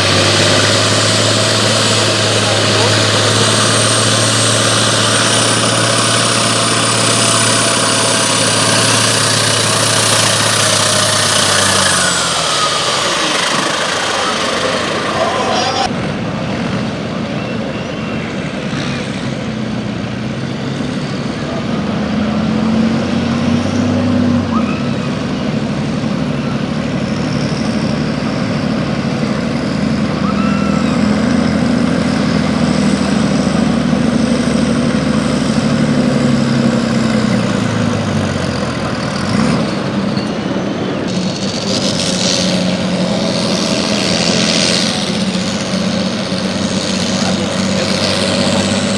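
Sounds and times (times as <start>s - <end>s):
engine running hard under load: 0.0s - 48.9s.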